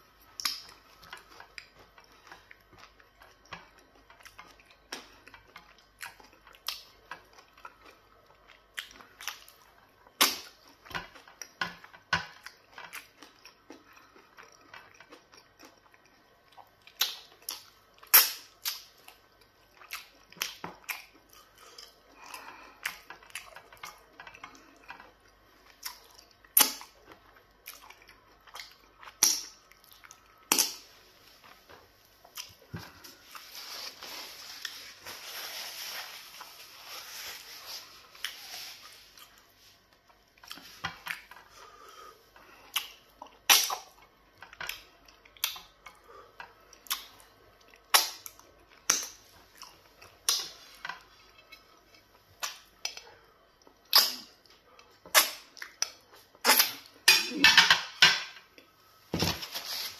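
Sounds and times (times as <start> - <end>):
chewing: 0.2 - 35.0, 37.6 - 57.4.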